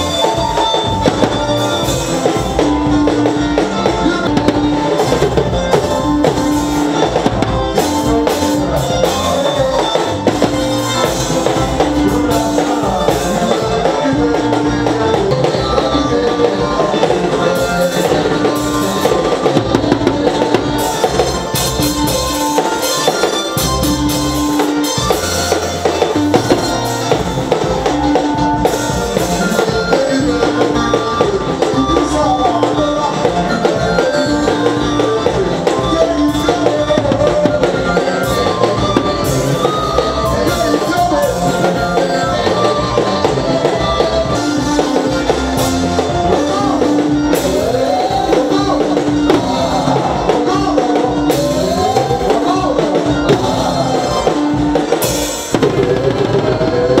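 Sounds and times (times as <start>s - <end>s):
bass guitar: 0.0s - 57.0s
drum kit beat: 0.0s - 57.0s
electric guitar: 0.0s - 57.0s
electronic keyboard riff: 0.0s - 57.0s.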